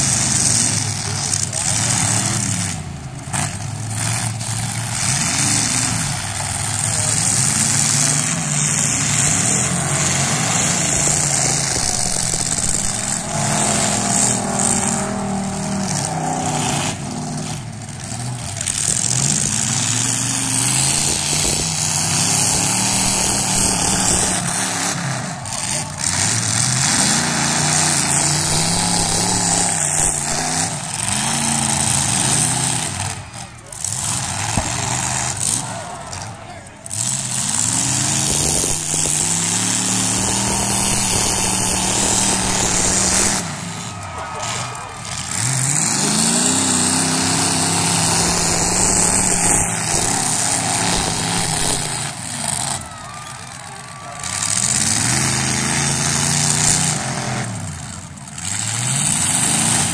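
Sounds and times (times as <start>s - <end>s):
car engines revving hard: 0.0s - 59.9s
cars banging: 0.0s - 59.9s.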